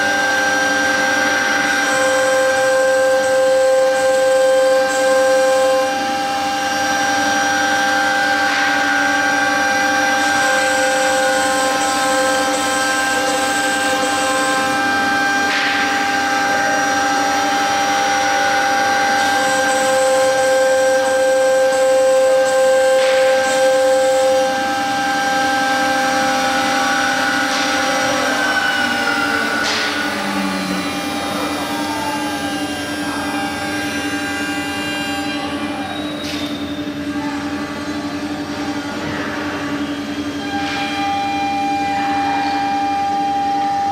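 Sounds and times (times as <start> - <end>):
router spindle whining: 0.0 - 43.9.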